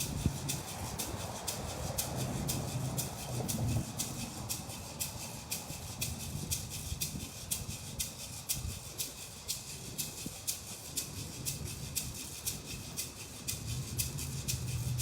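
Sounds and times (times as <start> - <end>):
gourd rattles shaken: 0.0 - 15.0.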